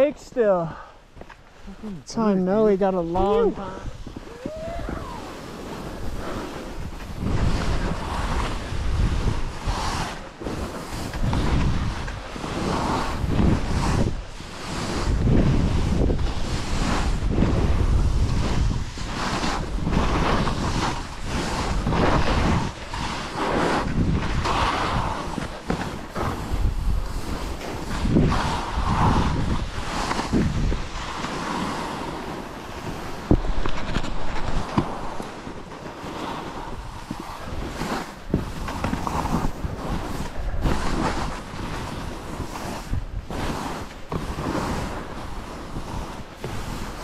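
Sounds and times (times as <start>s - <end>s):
wind buffeting microphone: 0.0s - 47.0s
skis hissing through snow: 1.5s - 47.0s.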